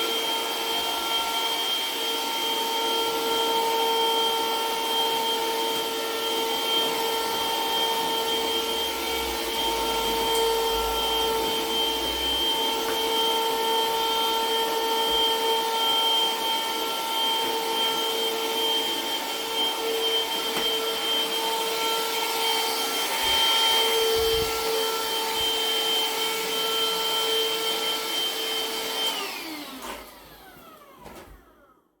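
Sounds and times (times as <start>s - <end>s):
vacuum motor whine: 0.0s - 31.8s
vacuum motor winding down: 0.0s - 31.8s.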